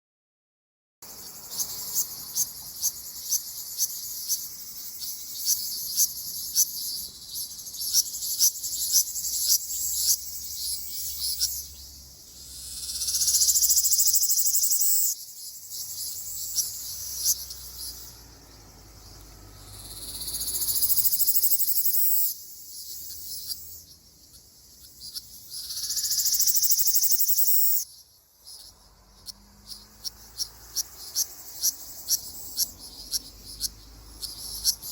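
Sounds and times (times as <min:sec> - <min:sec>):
cicada ticking and buzzing: 0:01.0 - 0:34.9.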